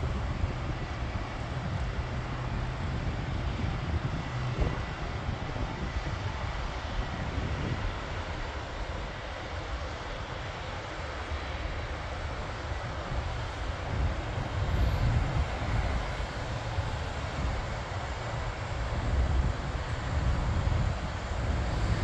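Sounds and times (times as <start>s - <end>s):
propeller airplane engines droning: 0.0s - 22.0s.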